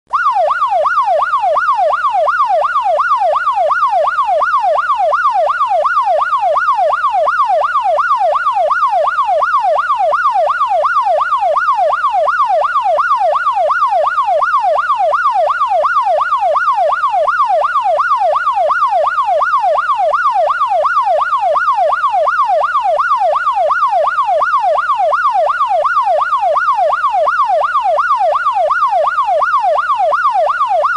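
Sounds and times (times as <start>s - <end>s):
police siren yelping: 0.1s - 30.9s.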